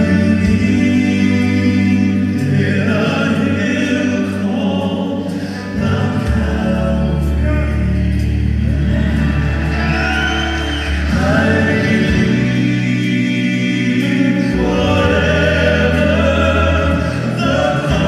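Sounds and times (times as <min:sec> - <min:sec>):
gospel choir singing: 0:00.0 - 0:18.0.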